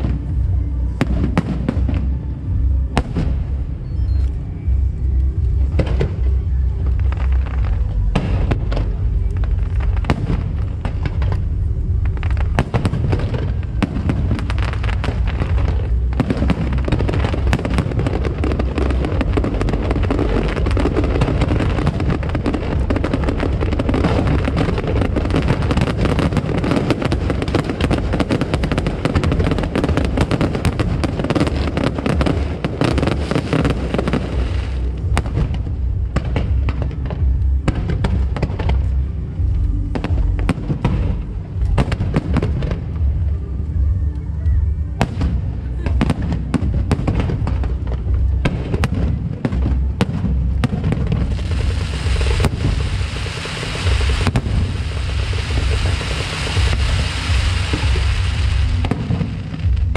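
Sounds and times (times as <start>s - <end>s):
fireworks bangs and crackling: 0.0s - 59.9s
steady low rumble: 0.0s - 59.9s.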